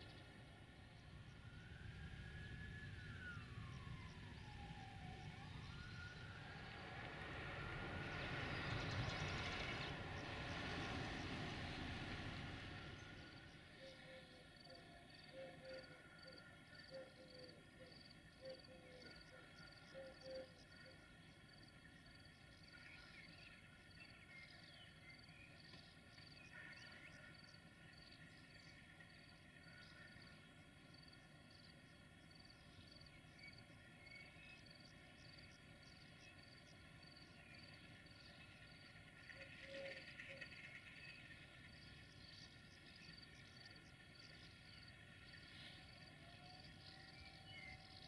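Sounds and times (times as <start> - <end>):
high insect chirp: 0.0 - 48.0.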